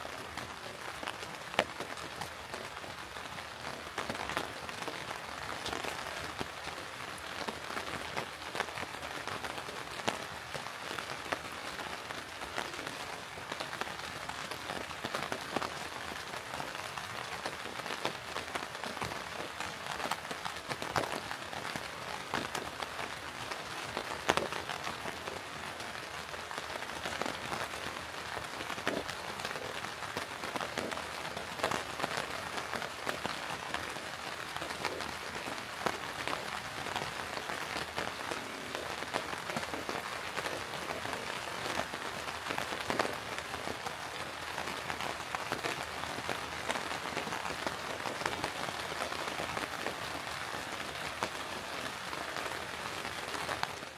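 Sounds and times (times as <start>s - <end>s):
rain hissing in woodland: 0.0s - 53.9s
raindrops ticking: 0.0s - 53.9s.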